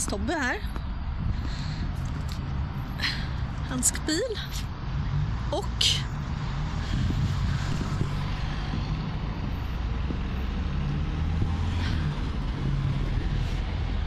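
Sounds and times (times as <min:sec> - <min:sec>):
wind buffeting microphone: 0:00.0 - 0:04.0, 0:04.6 - 0:14.0.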